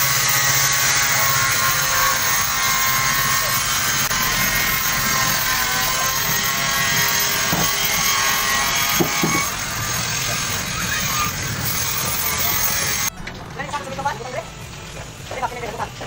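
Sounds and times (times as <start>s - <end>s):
loud machine with whining tones: 0.0s - 16.0s.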